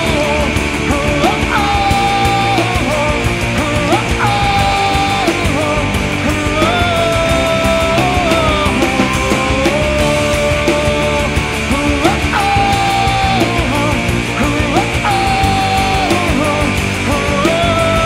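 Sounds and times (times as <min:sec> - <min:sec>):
rock band playing instrumental: 0:00.0 - 0:18.0
sliding lead melody: 0:00.0 - 0:18.0.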